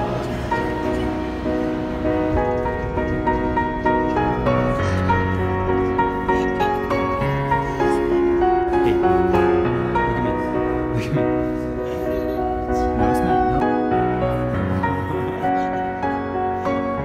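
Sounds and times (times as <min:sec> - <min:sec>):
piano background music: 0:00.0 - 0:17.0.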